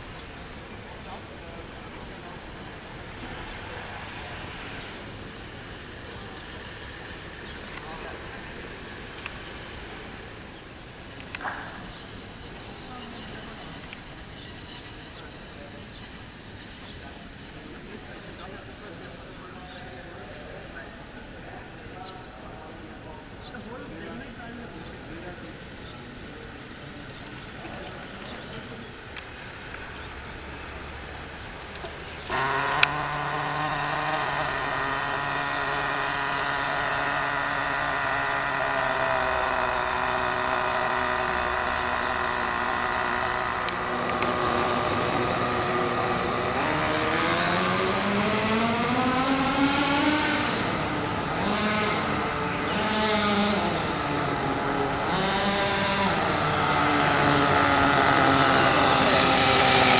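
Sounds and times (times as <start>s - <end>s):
small engine starting and revving: 0.0s - 21.9s, 27.4s - 59.9s.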